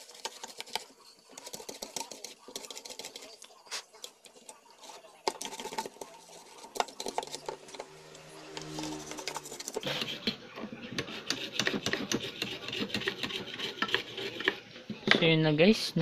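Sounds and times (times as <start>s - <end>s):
metal tools scraping circuit board: 0.0s - 14.6s.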